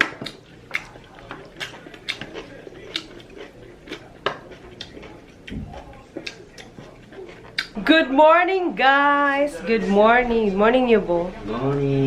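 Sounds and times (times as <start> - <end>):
close eating noises: 0.0 - 12.0.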